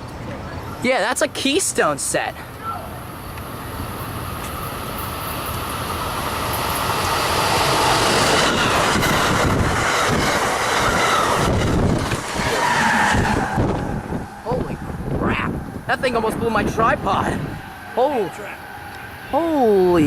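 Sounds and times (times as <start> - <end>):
train wheels rushing on rail: 2.6 - 20.0.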